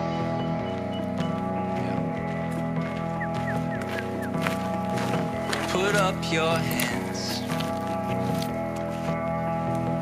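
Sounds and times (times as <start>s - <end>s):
instrumental song music: 0.0s - 10.0s.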